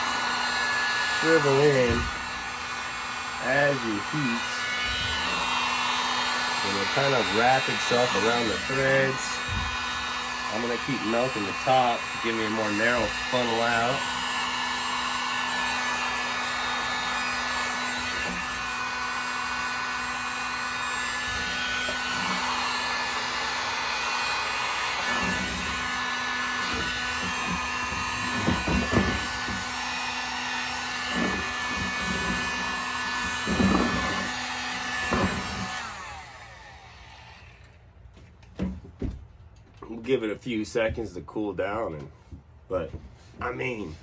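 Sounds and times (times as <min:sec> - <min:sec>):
heat gun blowing air: 0:00.0 - 0:39.1.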